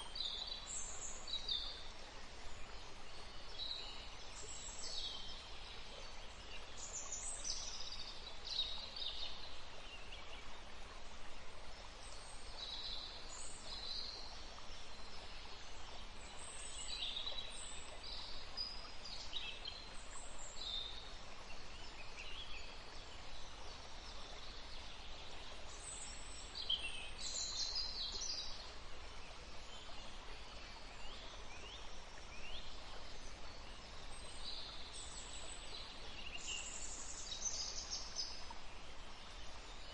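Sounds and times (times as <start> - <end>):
faint stream rushing: 0.0 - 39.9.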